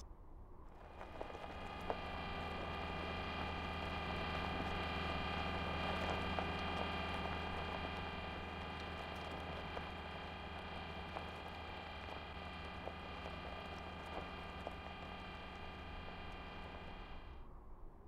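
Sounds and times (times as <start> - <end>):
faint clicks: 0.7 - 17.3
electric motors droning: 0.7 - 17.6.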